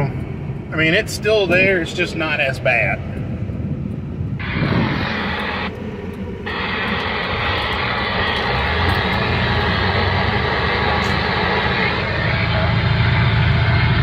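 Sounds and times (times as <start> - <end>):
diesel pickup engine droning: 0.0 - 14.0
driveline shudder: 0.0 - 14.0.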